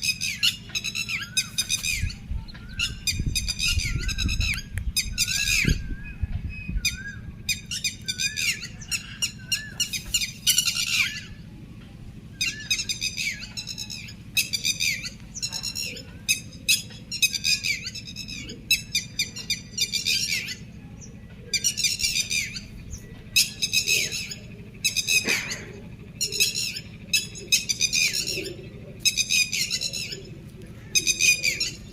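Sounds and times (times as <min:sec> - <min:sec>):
flock of birds calling harshly: 0:00.0 - 0:31.9
low background hum: 0:00.0 - 0:31.9.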